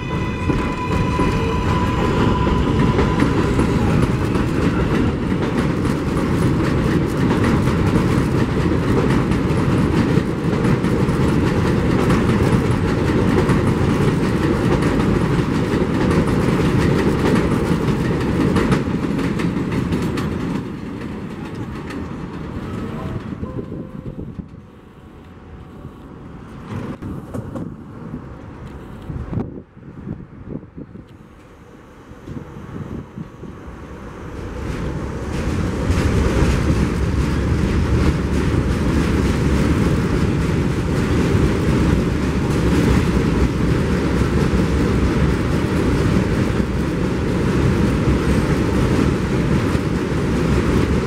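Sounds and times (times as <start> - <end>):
train wheels on rails: 0.0 - 51.0.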